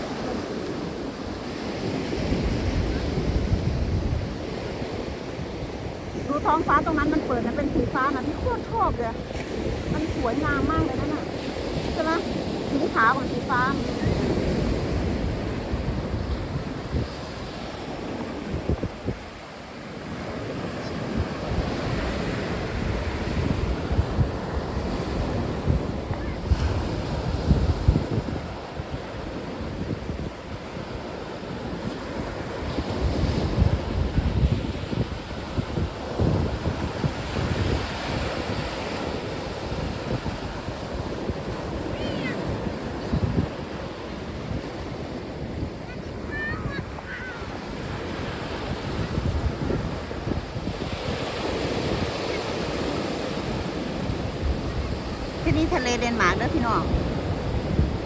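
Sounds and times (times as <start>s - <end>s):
sea waves washing in: 0.0s - 58.0s
wind buffeting microphone: 0.0s - 58.0s.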